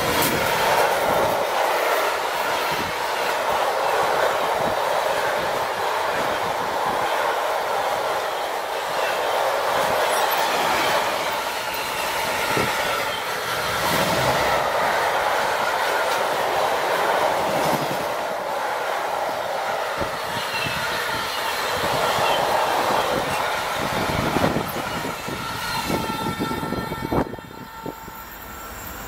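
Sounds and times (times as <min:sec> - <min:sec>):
freight train rolling past: 0:00.0 - 0:29.0
steel wheels on rail: 0:00.0 - 0:29.0.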